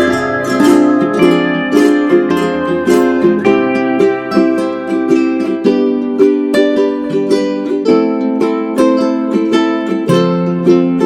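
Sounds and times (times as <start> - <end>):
plucked strings melody with beat: 0.0 - 11.0.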